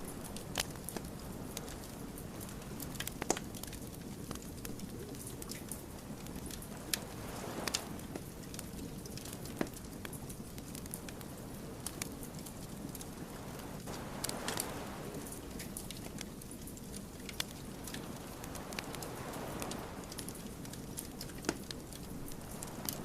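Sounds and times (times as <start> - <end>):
firewood crackling: 0.0 - 23.0
low rush of flame: 0.0 - 23.0.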